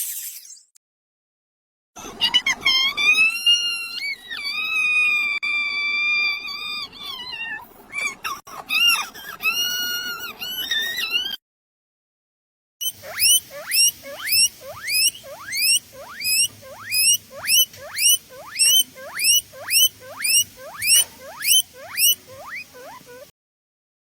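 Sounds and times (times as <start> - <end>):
mouse squeaks: 2.2 - 11.4, 12.8 - 23.3.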